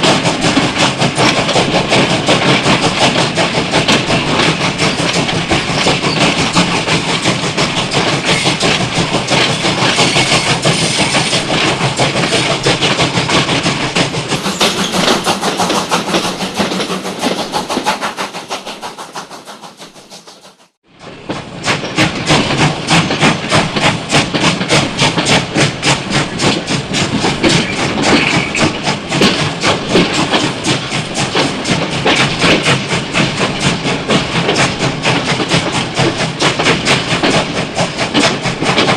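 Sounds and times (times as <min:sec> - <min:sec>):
train wheels clattering on rails: 0:00.0 - 0:38.9.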